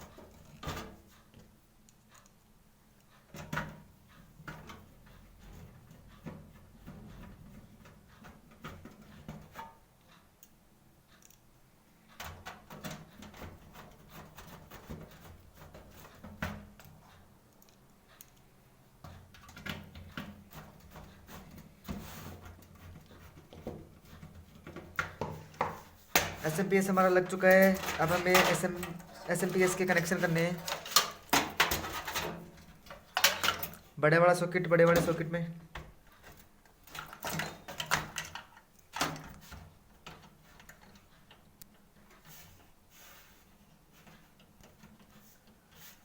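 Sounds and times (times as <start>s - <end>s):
small metallic clicks and scrapes: 0.0s - 34.0s, 36.0s - 46.0s.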